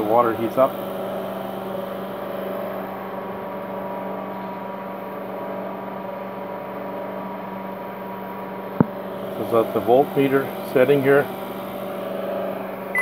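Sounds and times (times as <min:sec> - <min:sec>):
microwave oven fan humming: 0:00.0 - 0:13.0.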